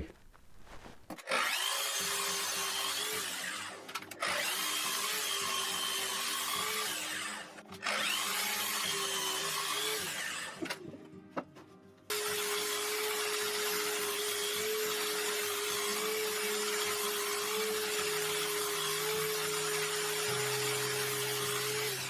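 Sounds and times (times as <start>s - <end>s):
power tool whining on wood: 0.7s - 10.7s, 12.1s - 22.0s.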